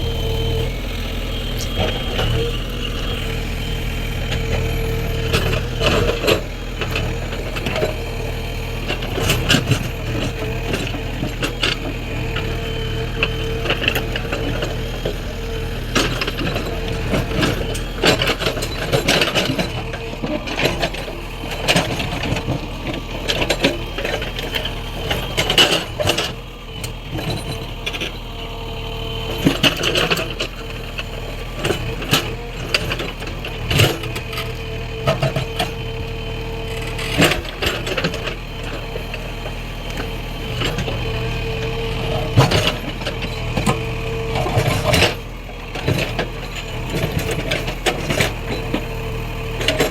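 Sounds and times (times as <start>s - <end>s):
diesel engine under load: 0.0s - 49.9s
hydraulic whine: 0.0s - 49.9s.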